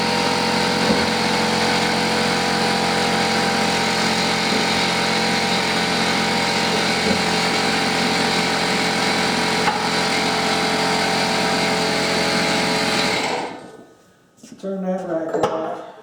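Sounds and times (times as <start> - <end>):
air compressor running: 0.0 - 13.8.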